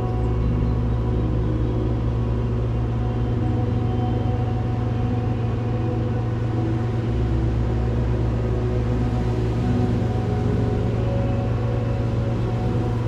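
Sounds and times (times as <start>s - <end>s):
airplane engine droning in cabin: 0.0s - 13.0s.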